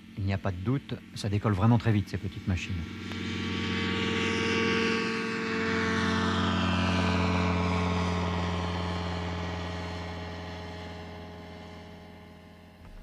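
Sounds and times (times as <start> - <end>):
microlight engine and propeller drone: 0.0 - 13.0.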